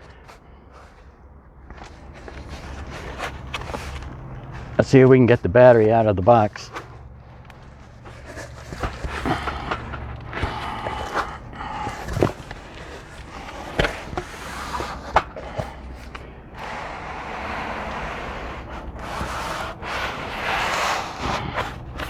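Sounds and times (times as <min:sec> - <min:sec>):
foam packing rubbing and rustling: 0:00.0 - 0:22.0.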